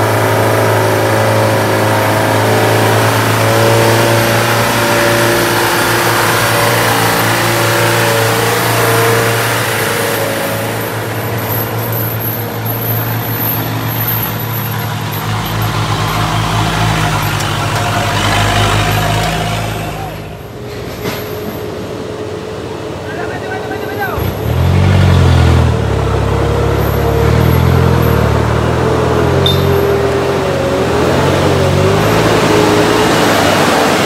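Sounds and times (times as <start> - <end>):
heavy truck engines running: 0.0 - 34.0.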